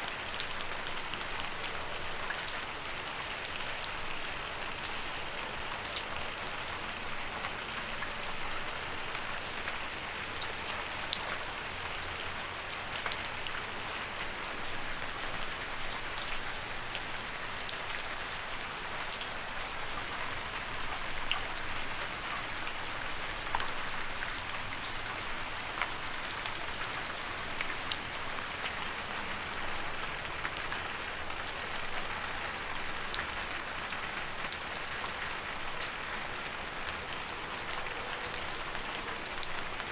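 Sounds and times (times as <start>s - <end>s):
raindrops ticking close by: 0.0s - 39.9s.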